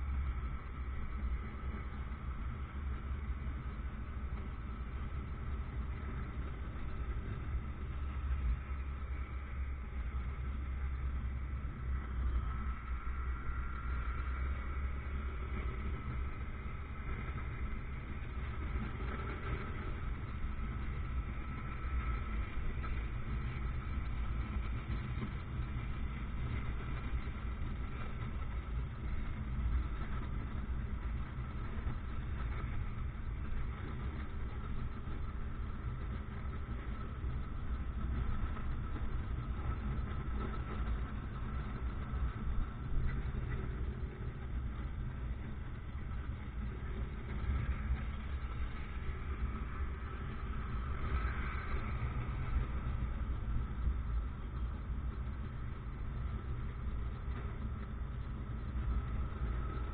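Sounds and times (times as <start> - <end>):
motorcycle engine and road rumble: 0.0 - 59.9.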